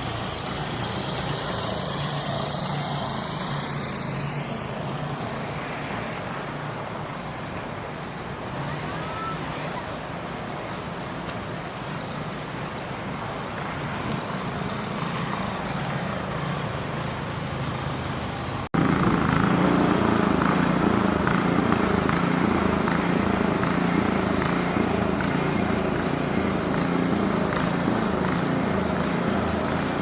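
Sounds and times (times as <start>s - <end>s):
city traffic: 0.0s - 30.0s
wind: 0.0s - 30.0s.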